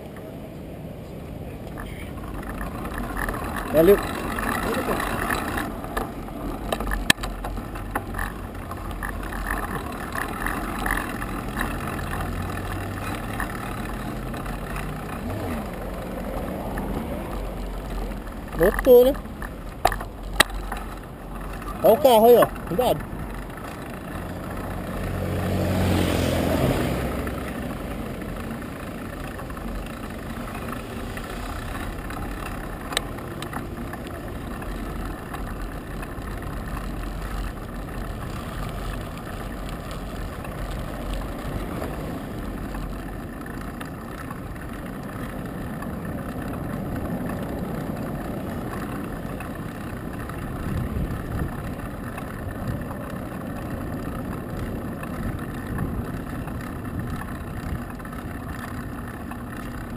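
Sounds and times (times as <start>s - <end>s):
car passing: 0.0s - 59.9s
wind and tyre noise: 0.0s - 59.9s.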